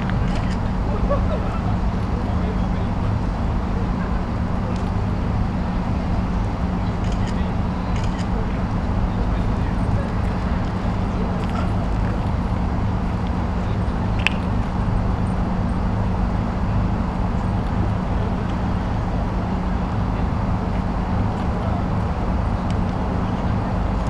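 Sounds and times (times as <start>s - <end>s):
city background rumble: 0.0s - 24.0s.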